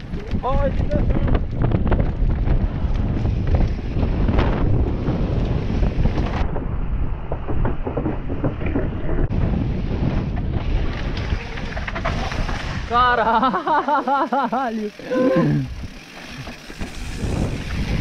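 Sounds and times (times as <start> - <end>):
wind buffeting microphone: 0.0 - 13.3, 15.3 - 18.0
bike knocking and rattling: 0.0 - 18.0.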